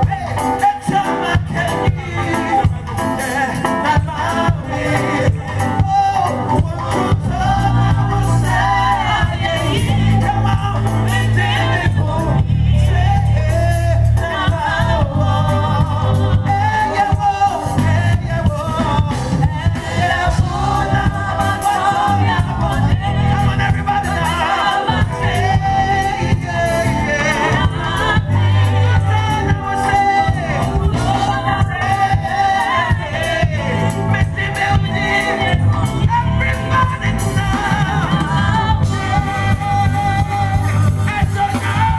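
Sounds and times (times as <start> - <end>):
gospel band playing: 0.0 - 41.9
voices singing together: 0.0 - 41.9.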